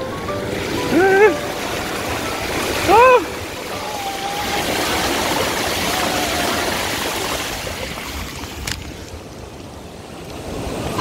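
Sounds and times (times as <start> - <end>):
bike tyres splashing through water: 0.5 - 9.4.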